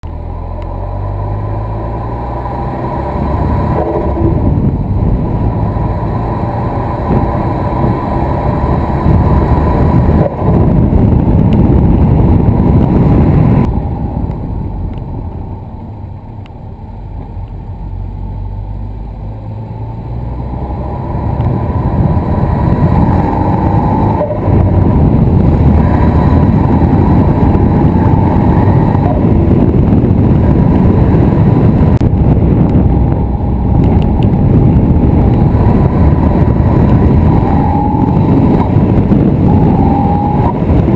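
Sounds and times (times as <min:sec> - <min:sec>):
car engine accelerating hard: 0:00.0 - 0:40.9.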